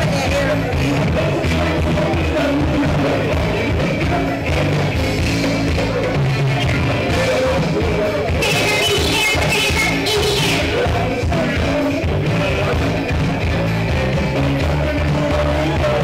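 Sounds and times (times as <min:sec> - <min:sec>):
rock and roll song with singing: 0:00.0 - 0:16.0.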